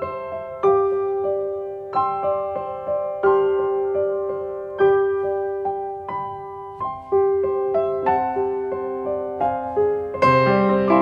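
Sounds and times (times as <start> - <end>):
slow gentle piano melody: 0.0 - 11.0.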